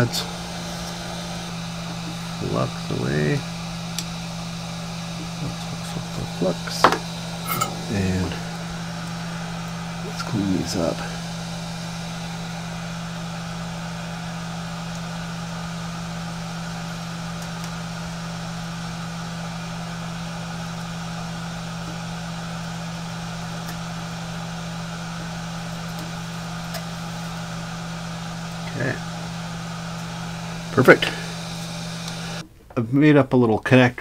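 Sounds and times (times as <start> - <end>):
steady machine hum: 0.0 - 32.5.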